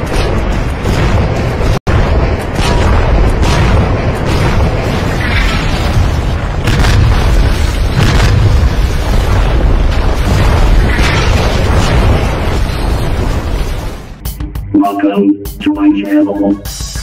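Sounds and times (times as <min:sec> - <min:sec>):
sharp explosion blasts: 0:00.0 - 0:14.2.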